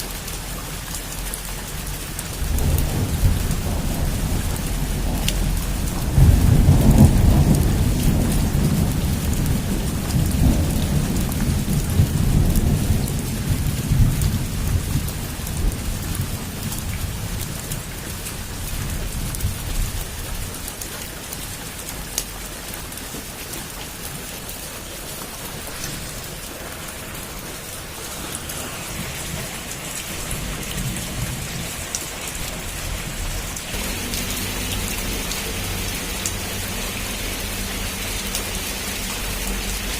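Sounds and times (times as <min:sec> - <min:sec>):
heavy rain pattering: 0:00.0 - 0:39.9
thunder rumbling: 0:01.8 - 0:20.6, 0:24.2 - 0:39.9.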